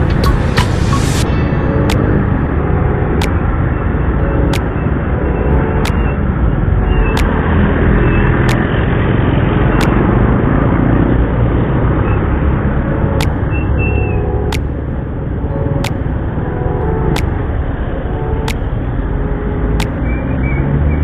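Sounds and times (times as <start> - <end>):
passing traffic: 0.0 - 21.0
wind and road noise: 0.0 - 21.0.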